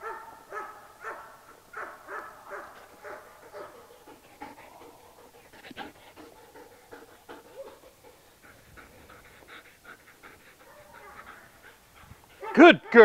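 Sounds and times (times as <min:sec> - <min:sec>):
dog panting: 0:00.6 - 0:13.0.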